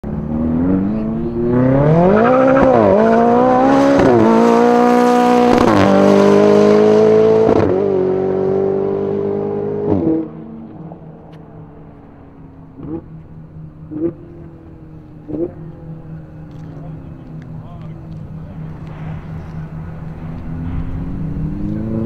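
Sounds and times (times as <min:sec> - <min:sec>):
quick gear upshifts: 0:00.0 - 0:22.0
sports car engine accelerating: 0:00.0 - 0:22.0.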